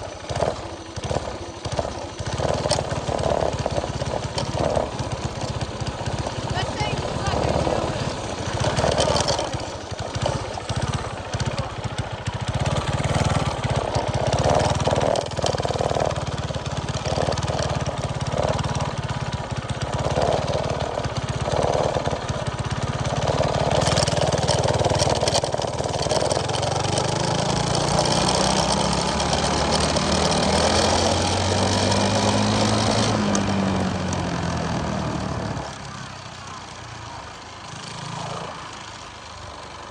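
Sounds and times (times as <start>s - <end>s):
small engine with choppy lope: 0.0s - 39.9s.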